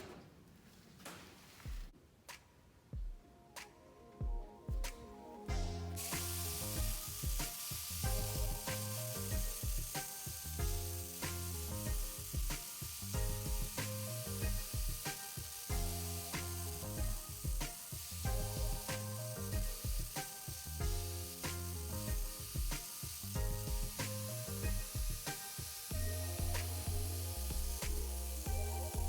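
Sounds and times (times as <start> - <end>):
band playing with steady beat: 4.2 - 10.9, 11.9 - 29.0.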